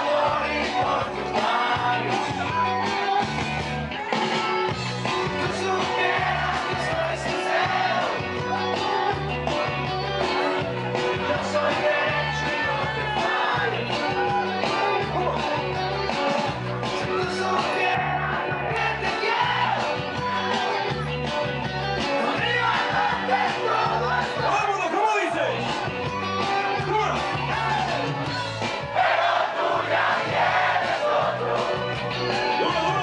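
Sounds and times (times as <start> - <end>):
dance music with singing: 0.0 - 33.0.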